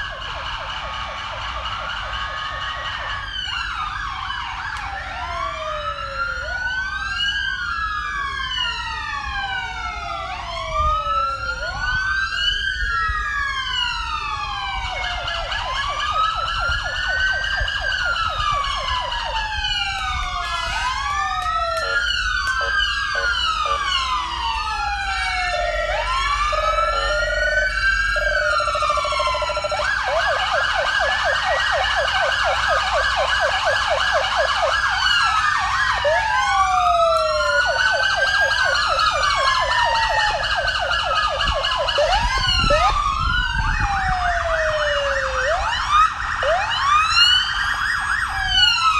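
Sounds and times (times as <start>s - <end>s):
emergency sirens wailing: 0.0s - 48.9s.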